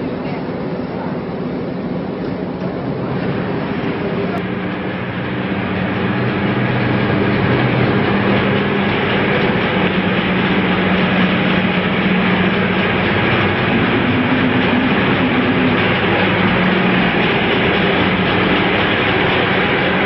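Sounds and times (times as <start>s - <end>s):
low hum: 0.0s - 20.0s
machinery drone: 0.0s - 20.0s.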